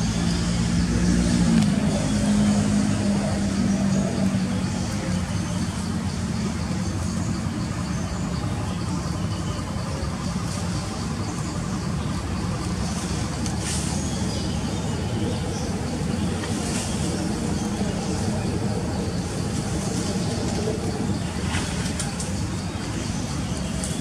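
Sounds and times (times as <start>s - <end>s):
low engine-like rumble: 0.0s - 24.0s.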